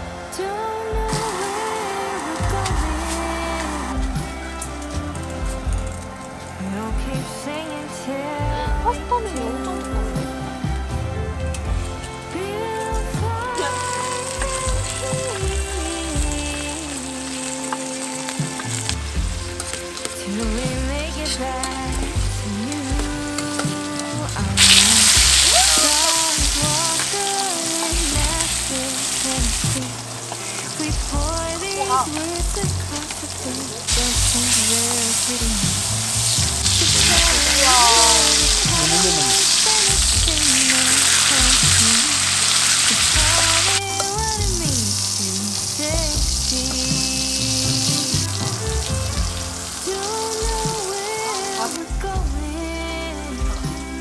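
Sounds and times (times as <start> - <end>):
background music with melody: 0.0 - 54.0
steak sizzling on griddle: 0.6 - 6.6, 12.8 - 52.2.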